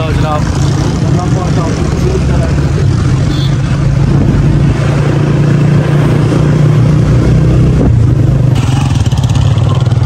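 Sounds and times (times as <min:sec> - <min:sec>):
motorcycle engine running: 0:00.0 - 0:10.0
wind rushing over microphone: 0:00.7 - 0:09.0.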